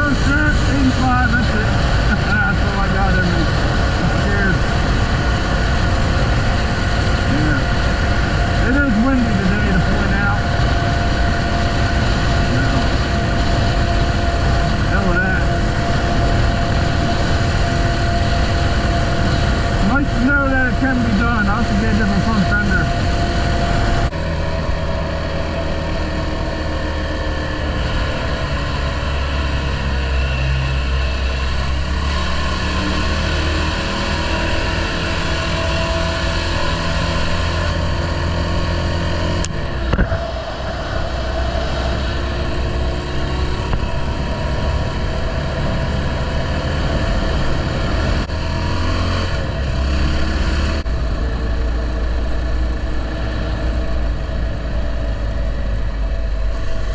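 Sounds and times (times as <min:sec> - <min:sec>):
motorcycle engine running: 0:00.0 - 0:56.9
wind rumble: 0:00.0 - 0:56.9.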